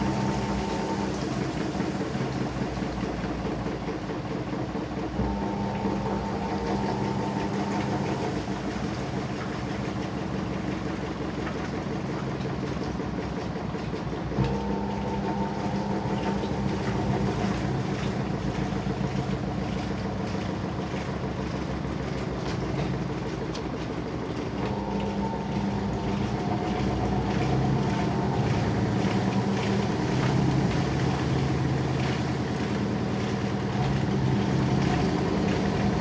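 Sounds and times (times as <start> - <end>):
drum motor hum: 0.0 - 36.0
washing machine rumble and rattle: 0.0 - 36.0.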